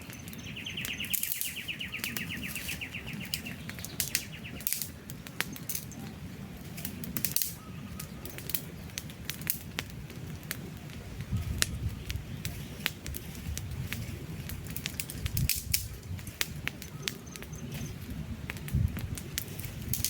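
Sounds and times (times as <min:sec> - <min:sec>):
campfire crackling and popping: 0:00.0 - 0:20.0
low rumble of fire: 0:00.0 - 0:20.0.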